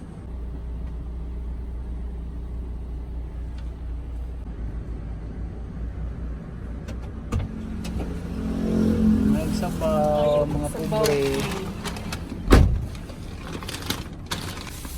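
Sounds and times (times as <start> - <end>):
vehicle engine rumbling: 0.0 - 14.9.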